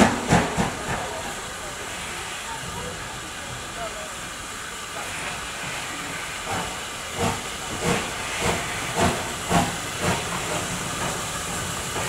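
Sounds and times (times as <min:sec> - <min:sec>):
steam hiss: 0:00.0 - 0:12.0
steam locomotive exhaust beats: 0:00.0 - 0:12.0.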